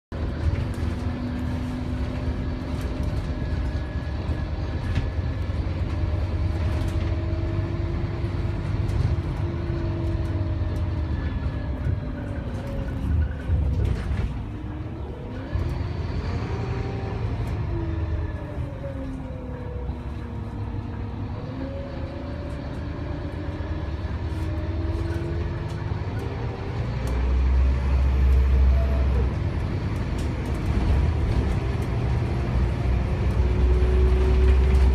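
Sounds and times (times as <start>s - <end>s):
bus engine rumble with whine: 0.1s - 34.9s.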